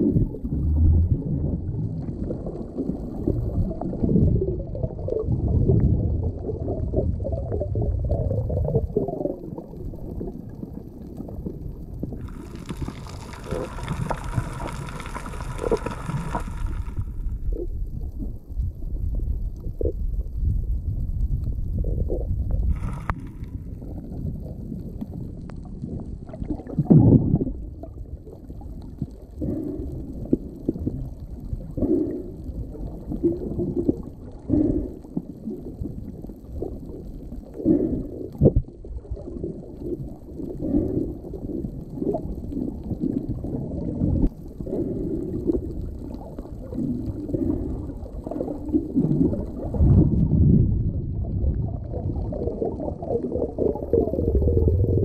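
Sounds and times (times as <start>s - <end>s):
underwater rumble: 0.0s - 55.0s
water gurgling: 0.0s - 55.0s.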